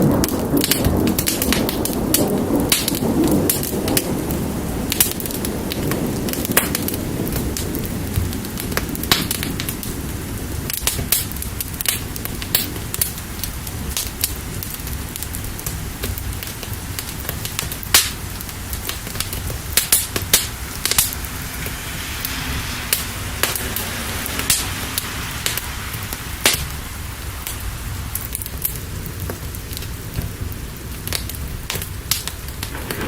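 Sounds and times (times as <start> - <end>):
low thunder-like rumble: 0.0 - 33.0
rain hissing: 0.0 - 33.0
wood fire crackling and popping: 0.0 - 33.0.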